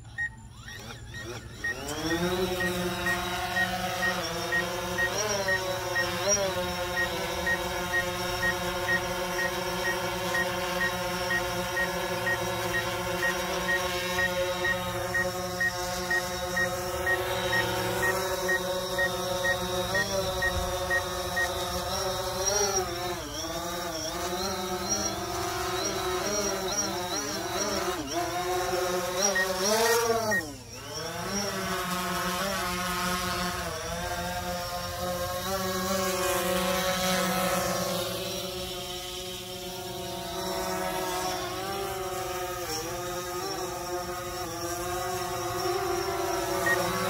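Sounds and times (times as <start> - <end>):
drone propellers buzzing: 0.0 - 47.0.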